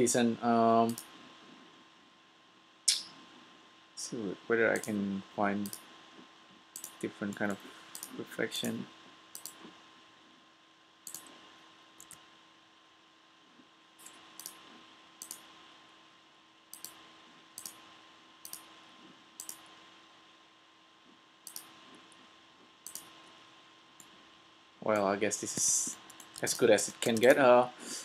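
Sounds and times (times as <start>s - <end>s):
faint electrical hum and hiss: 0.0s - 28.0s.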